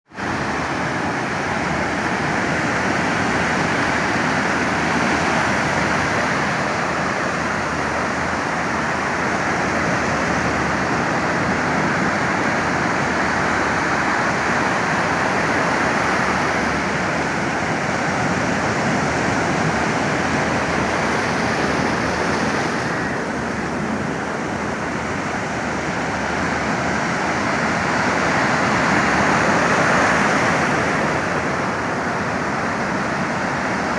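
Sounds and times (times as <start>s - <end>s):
stormy surf breaking on beach: 0.1s - 33.9s.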